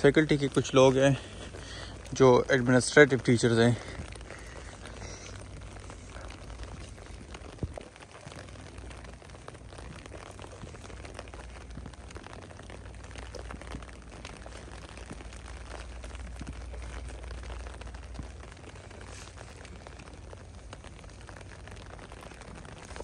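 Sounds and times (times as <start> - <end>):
steady rain with drop ticks: 0.0 - 23.0.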